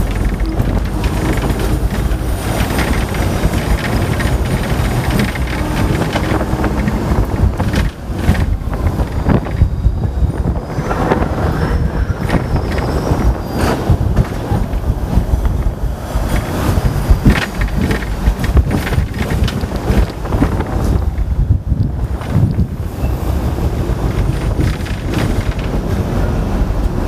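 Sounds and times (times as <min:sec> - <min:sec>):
tram rumbling on rails: 0:00.0 - 0:27.0.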